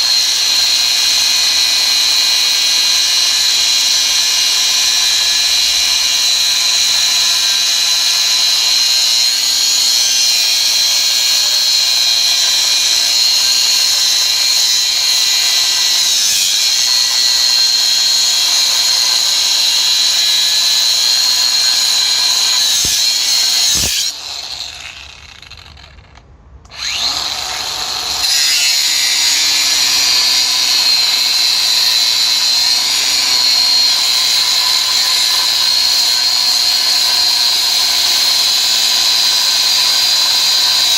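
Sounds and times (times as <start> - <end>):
angle grinder cutting steel: 0.0 - 40.9.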